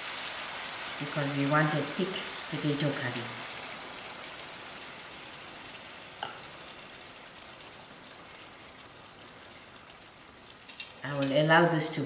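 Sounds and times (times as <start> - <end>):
curry sizzling in a pot: 0.0 - 12.0.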